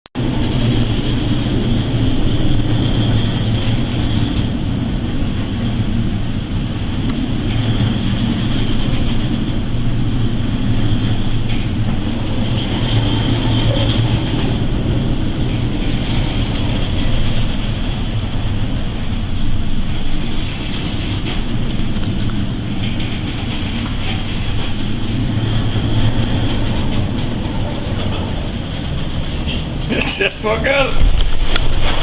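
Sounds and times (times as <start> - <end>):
wind and sea rushing: 0.1 - 32.0
ship engines droning: 0.2 - 32.0.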